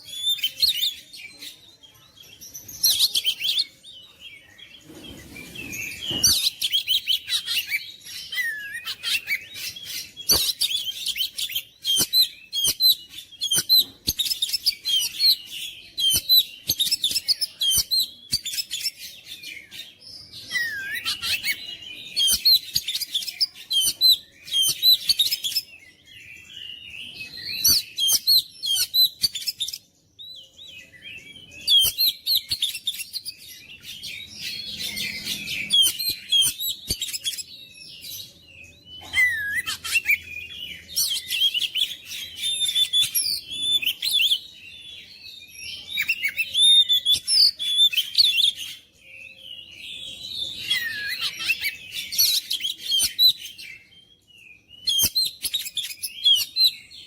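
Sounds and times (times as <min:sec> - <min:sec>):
songbird singing loudly: 0:02.4 - 0:57.0.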